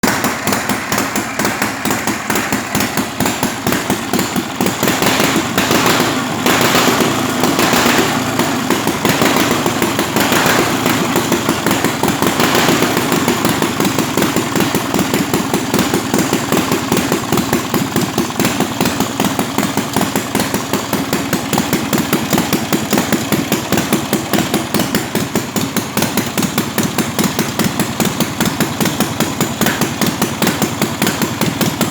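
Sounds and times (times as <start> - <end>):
motorcycle engine revving and idling: 0.0 - 31.9.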